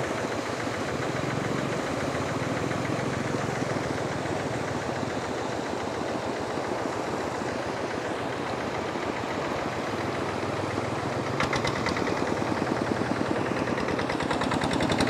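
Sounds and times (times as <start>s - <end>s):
engine running with fast pulsing: 0.0s - 15.0s.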